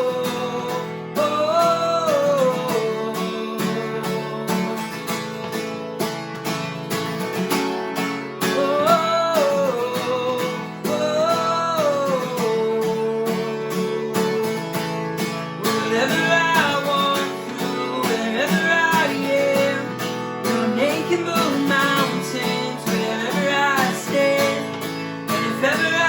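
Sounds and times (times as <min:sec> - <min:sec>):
person singing wordless melody: 0:00.0 - 0:05.2, 0:08.4 - 0:14.9, 0:15.6 - 0:26.0
strummed acoustic guitar: 0:00.0 - 0:26.0.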